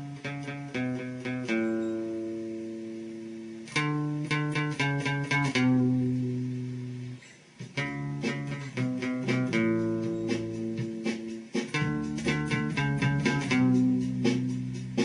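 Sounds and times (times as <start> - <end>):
guitar picking: 0.0 - 15.0.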